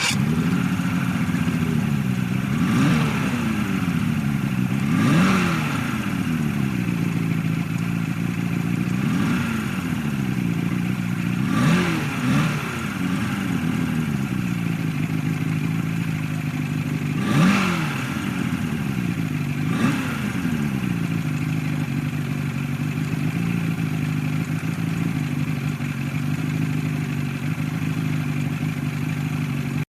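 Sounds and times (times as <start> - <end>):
outboard boat motor revving: 0.0 - 29.6.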